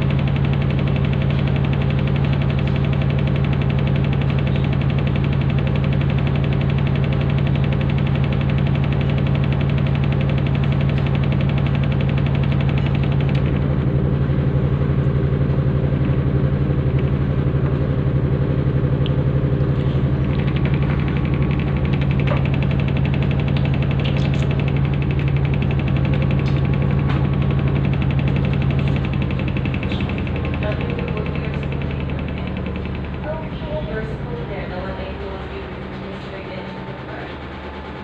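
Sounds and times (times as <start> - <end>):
motor-driven spinning disc: 0.0 - 38.0.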